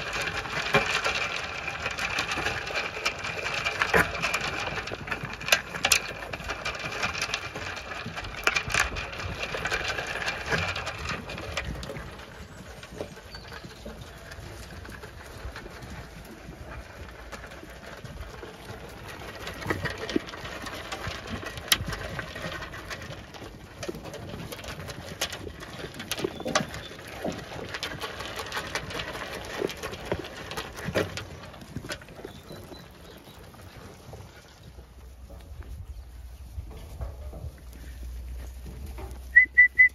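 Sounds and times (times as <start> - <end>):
sheep crunching feed pellets: 0.0 - 39.9.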